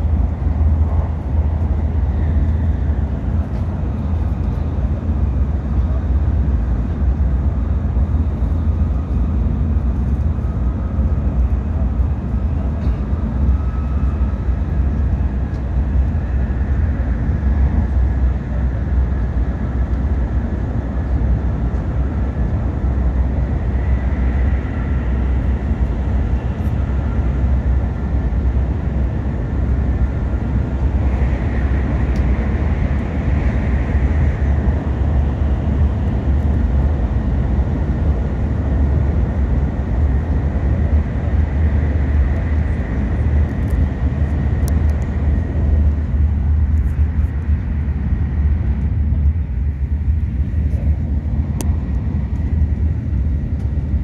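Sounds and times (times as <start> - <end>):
train cabin deep rumble: 0.0 - 54.0.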